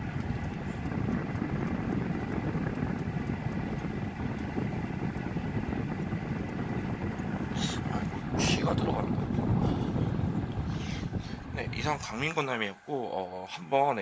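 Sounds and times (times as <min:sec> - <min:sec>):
air purifier fan rush: 0:00.0 - 0:14.0.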